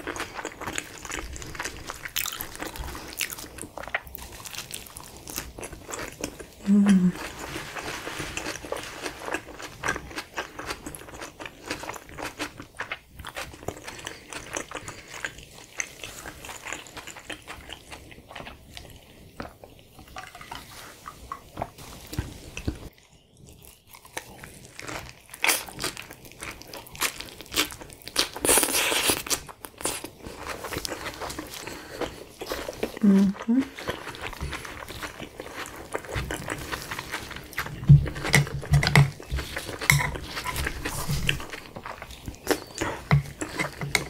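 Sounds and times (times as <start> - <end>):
close chewing with mouth sounds: 0.0 - 44.0.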